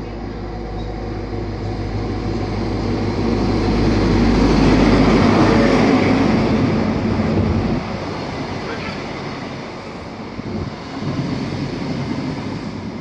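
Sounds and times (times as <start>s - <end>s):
train engine drone: 0.0s - 13.0s
wheel-on-rail rumble: 0.0s - 13.0s.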